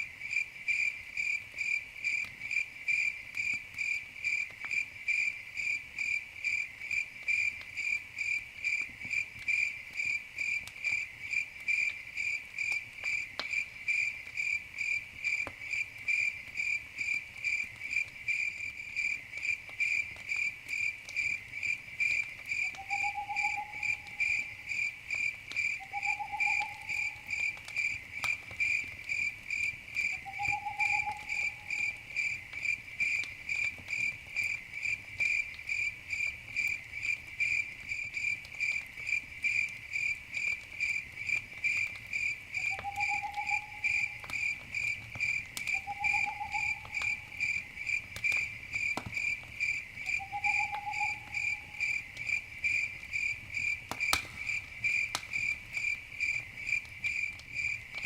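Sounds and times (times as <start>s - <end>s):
campfire crackling: 0.0s - 58.0s
crickets chirping: 0.0s - 58.0s.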